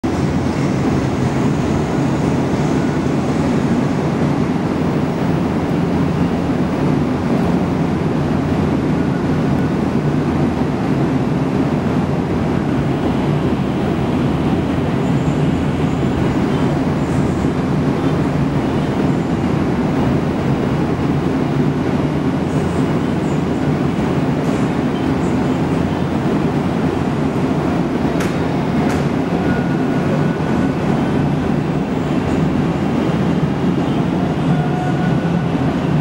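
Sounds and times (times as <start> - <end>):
subway train rumbling in tunnel: 0.0 - 36.0.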